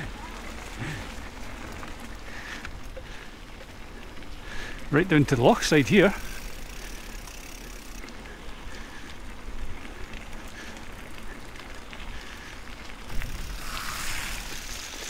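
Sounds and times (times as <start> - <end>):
bike tyres rolling on dirt: 0.0 - 15.0
tyres spraying through puddles: 0.0 - 15.0.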